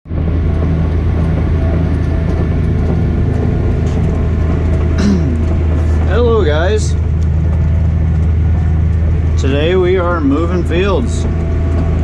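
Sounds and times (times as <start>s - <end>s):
tractor engine droning: 0.1s - 12.0s.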